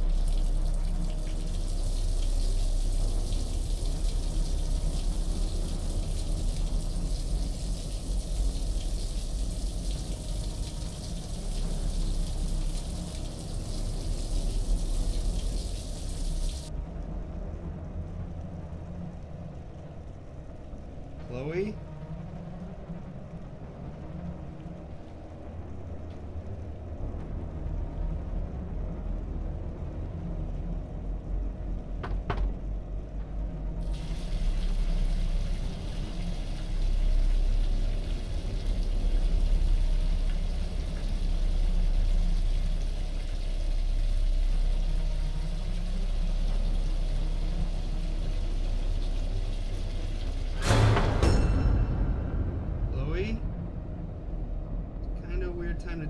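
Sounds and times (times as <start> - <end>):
low horror ambience rumble: 0.0 - 56.0.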